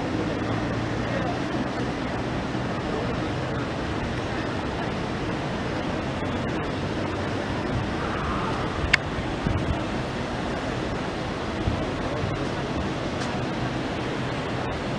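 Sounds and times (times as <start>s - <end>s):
busy city square noise: 0.0s - 14.9s.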